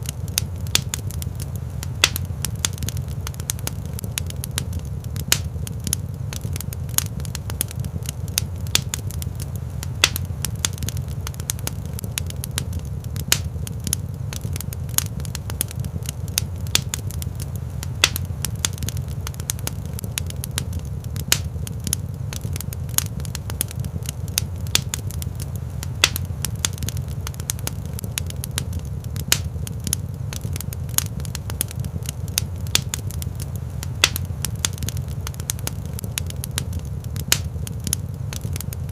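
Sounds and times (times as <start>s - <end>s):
low fire rumble: 0.0s - 38.9s
wood fire crackling: 0.0s - 38.9s.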